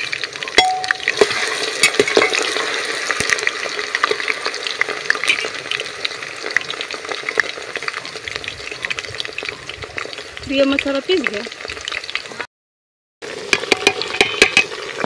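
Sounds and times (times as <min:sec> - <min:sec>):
oil sizzling in a pan: 0:00.0 - 0:12.5, 0:13.2 - 0:15.0.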